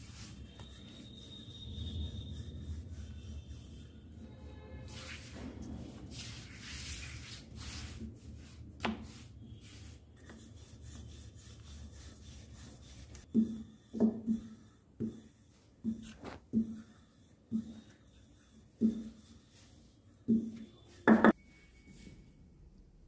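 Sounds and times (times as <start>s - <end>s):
rolling pin rubbing on dough: 0.0s - 21.4s.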